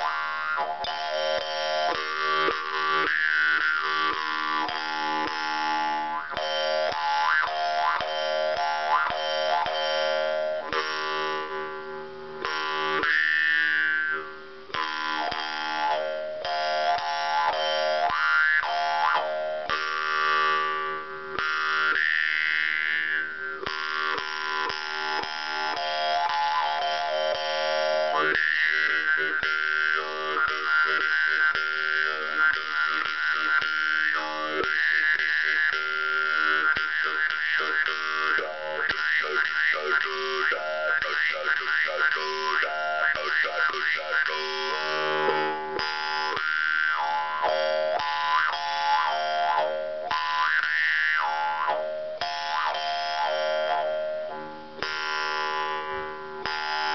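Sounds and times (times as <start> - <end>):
jaw harp playing: 0.0 - 56.9.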